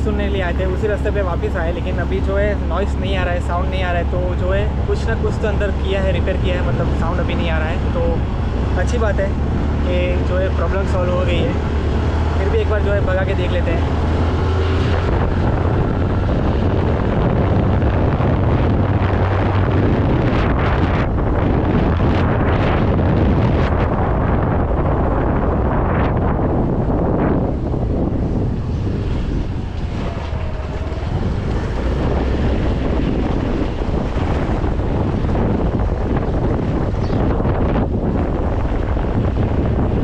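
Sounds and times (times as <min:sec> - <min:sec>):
road noise: 0:00.0 - 0:40.0
wind rushing over microphone: 0:00.0 - 0:40.0.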